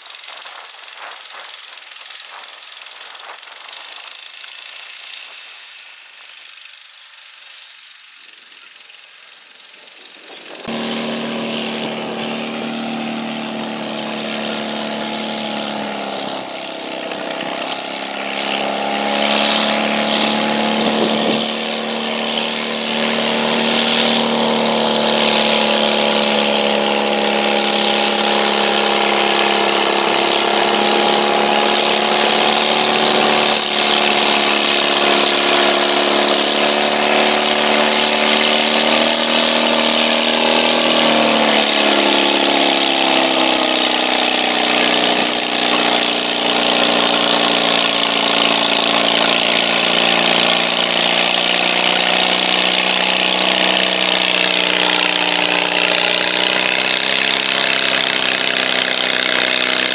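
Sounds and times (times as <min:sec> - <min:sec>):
garden tractor engine under load: 0:08.4 - 0:59.9.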